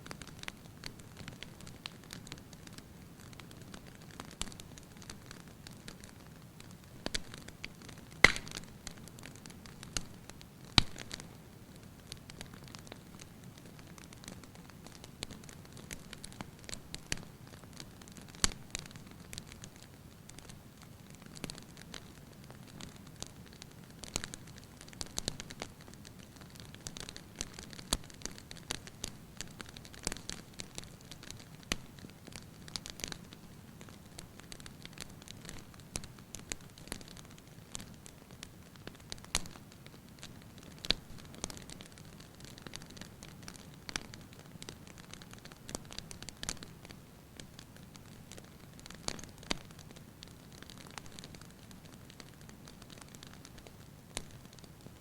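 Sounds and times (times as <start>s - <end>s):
fire crackling and popping: 0.0s - 55.0s
low rustle of flames: 0.0s - 55.0s.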